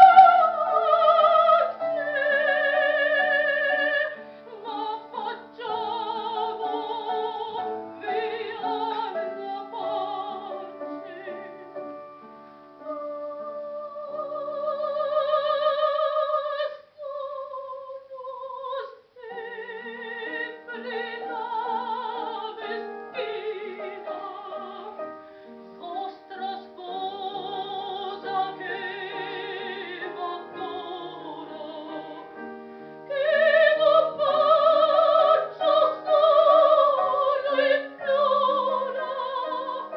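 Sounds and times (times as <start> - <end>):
piano accompaniment: 0.0 - 16.7, 18.6 - 39.9.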